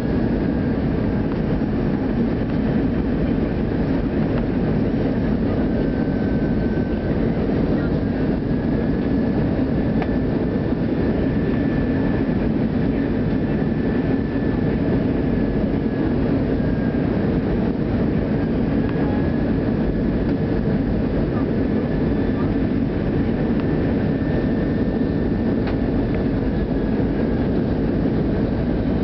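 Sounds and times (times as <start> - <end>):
airplane engines and airflow: 0.0 - 29.0.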